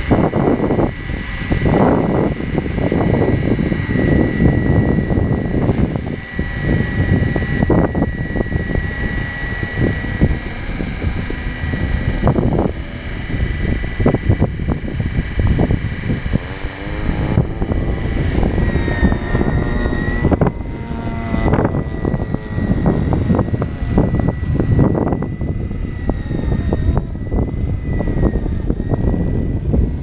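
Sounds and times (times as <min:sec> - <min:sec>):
model helicopter high whine: 0:00.0 - 0:30.0
wind buffeting microphone: 0:00.0 - 0:30.0.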